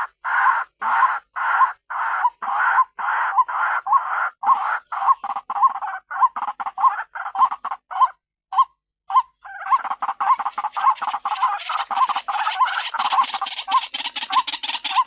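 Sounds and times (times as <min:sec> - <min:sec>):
bird harsh repeated calls: 0:00.0 - 0:15.0.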